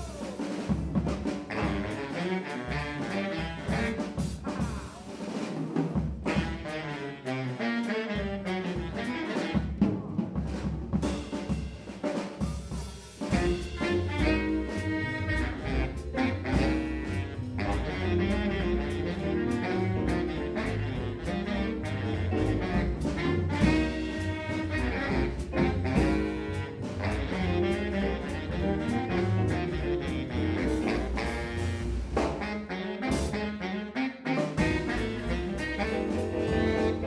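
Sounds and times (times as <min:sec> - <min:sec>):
jazz music with saxophone and brass: 0:00.0 - 0:37.0.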